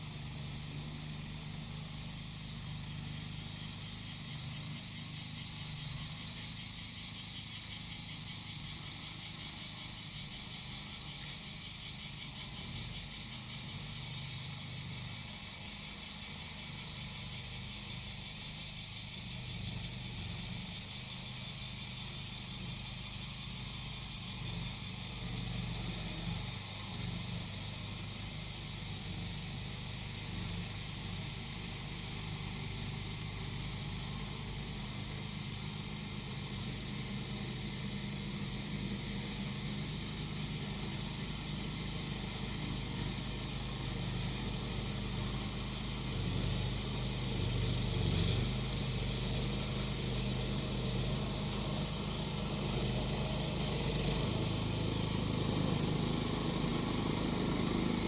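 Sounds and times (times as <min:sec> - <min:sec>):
cicadas buzzing: 0:00.0 - 0:58.0
lawn mower engine running: 0:00.0 - 0:58.0.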